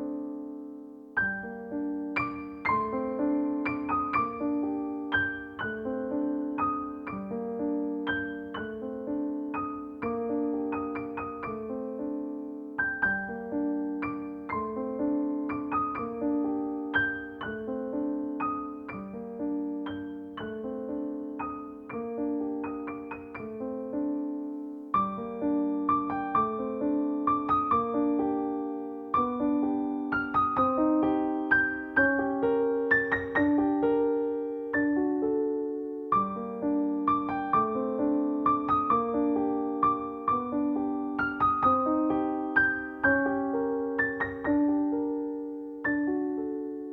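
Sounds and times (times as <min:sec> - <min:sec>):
gentle piano music: 0:00.0 - 0:46.9.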